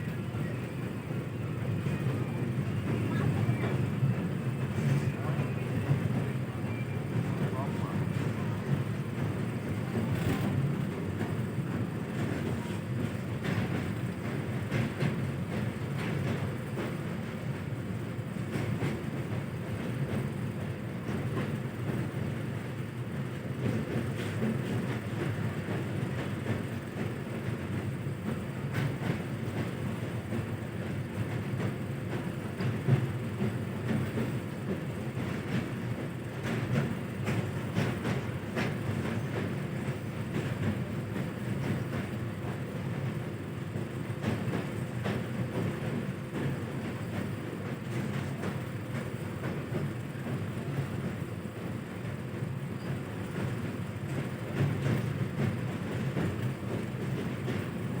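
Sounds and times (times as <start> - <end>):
train rumble from on board: 0.0 - 58.0.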